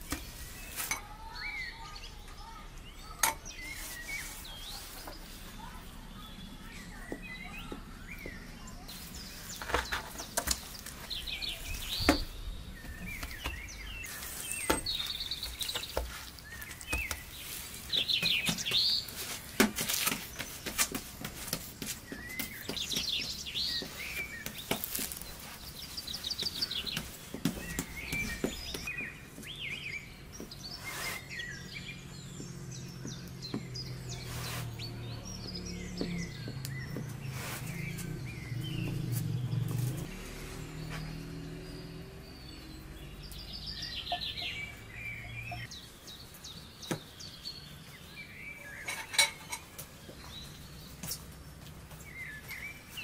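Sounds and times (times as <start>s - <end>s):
birds chirping and singing: 0.0s - 53.0s.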